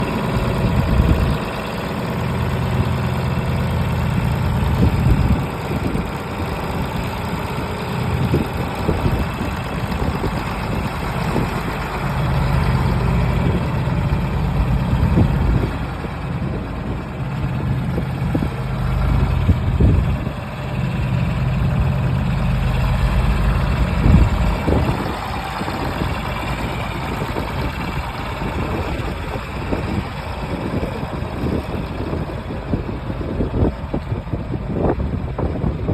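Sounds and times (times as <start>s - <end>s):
tractor engine idling: 0.0s - 35.9s.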